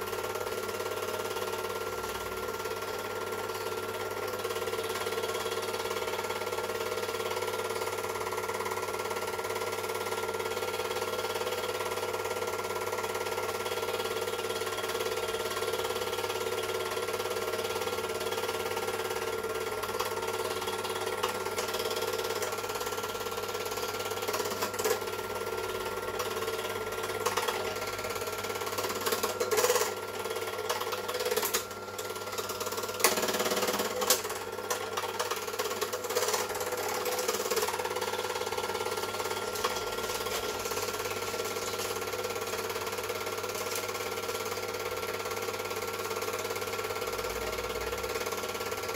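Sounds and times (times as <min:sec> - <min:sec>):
film projector whirring: 0:00.0 - 0:48.9.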